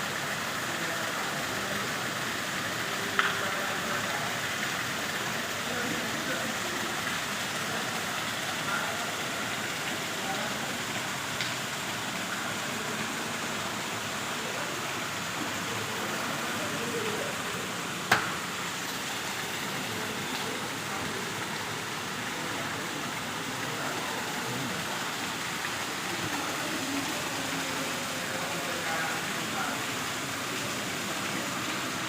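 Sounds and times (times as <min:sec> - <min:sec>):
waterfall splashing into pond: 0:00.0 - 0:32.0.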